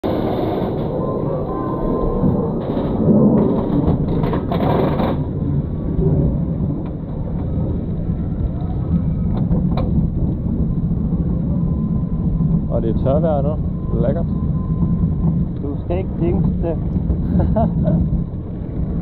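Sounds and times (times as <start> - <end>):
roller coaster lift chain clattering: 0.1 - 19.0.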